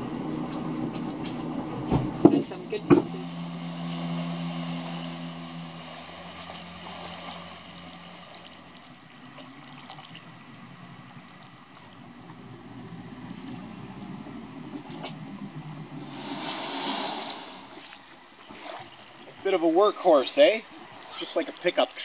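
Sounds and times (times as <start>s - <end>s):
boat engine humming: 0.0s - 22.0s
water lapping around hull: 0.0s - 22.0s.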